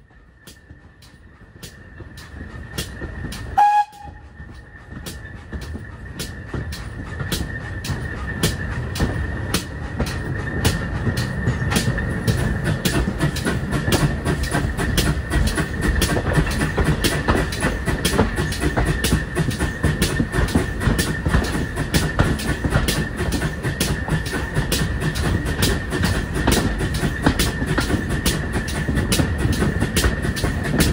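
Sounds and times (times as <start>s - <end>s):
steam train running: 0.0s - 30.9s.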